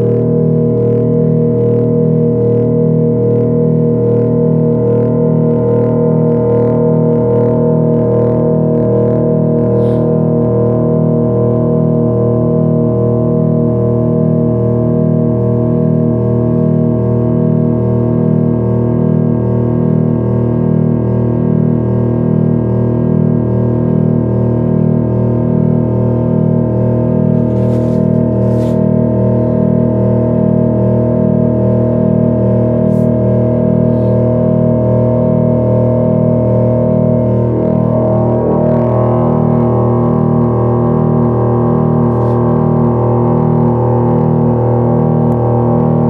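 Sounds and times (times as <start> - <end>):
low throbbing pulse: 0.0 - 46.0
synthesizer drone: 0.0 - 46.0.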